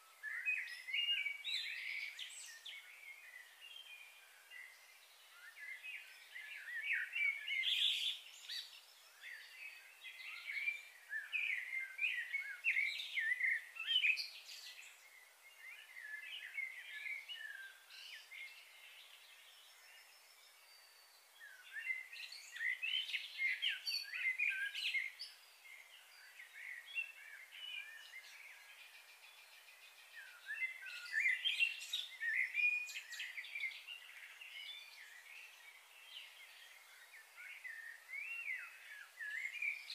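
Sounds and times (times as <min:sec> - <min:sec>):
birds chirping: 0:00.1 - 0:39.9.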